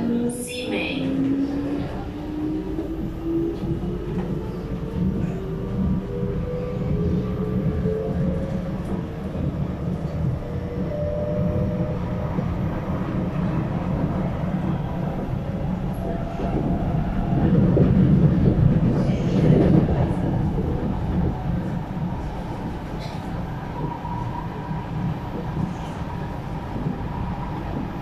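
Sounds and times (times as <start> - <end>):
metro train low rumble: 0.0 - 28.0.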